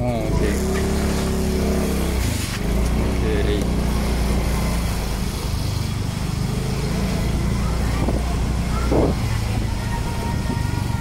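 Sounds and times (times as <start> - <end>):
motorbike engine at low speed: 0.0 - 11.0
road and wind noise: 0.0 - 11.0.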